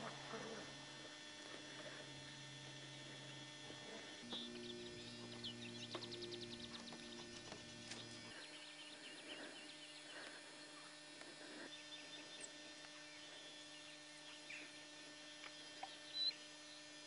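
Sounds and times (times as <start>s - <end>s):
faint electrical hum: 0.0s - 17.0s
small birds chirping: 0.5s - 17.0s.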